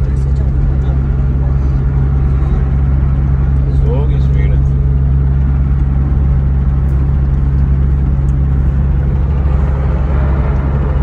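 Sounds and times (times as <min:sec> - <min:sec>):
low engine drone: 0:00.0 - 0:11.0
road and tyre noise: 0:00.0 - 0:11.0.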